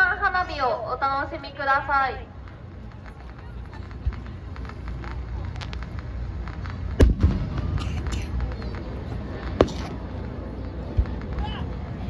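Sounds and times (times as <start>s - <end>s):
fireworks crackling: 0.0s - 12.0s
fireworks booming: 2.2s - 12.0s.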